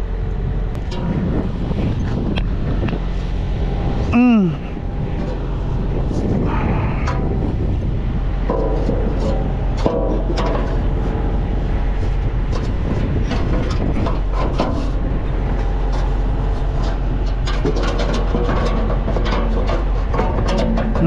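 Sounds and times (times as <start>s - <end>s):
diesel truck engine idling: 0.0s - 17.7s.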